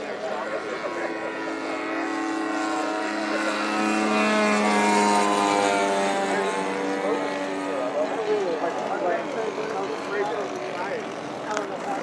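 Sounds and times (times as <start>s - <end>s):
model airplane engine flying past: 0.0s - 12.0s.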